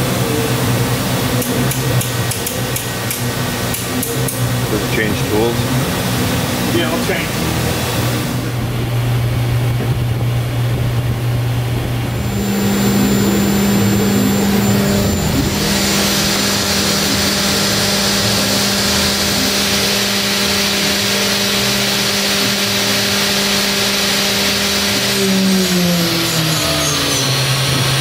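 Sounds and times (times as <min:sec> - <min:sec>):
milling machine hum: 0:00.0 - 0:28.0.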